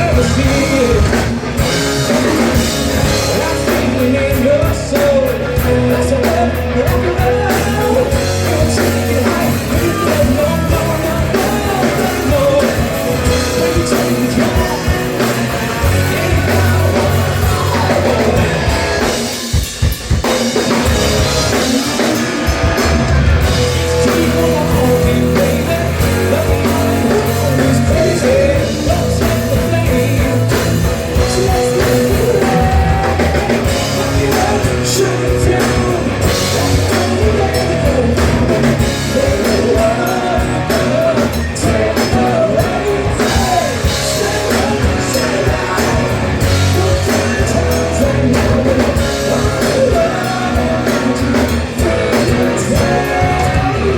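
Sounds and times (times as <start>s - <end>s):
live rock band playing loud: 0.0s - 53.9s.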